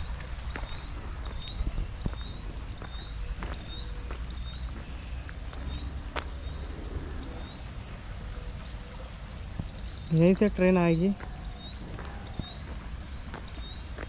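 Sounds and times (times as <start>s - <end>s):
bird chirping: 0.0s - 14.0s
wind on microphone: 0.0s - 14.0s.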